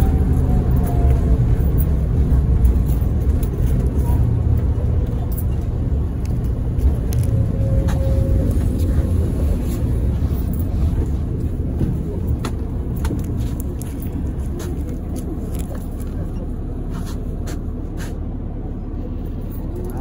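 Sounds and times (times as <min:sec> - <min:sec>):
tram running low rumble: 0:00.0 - 0:20.0.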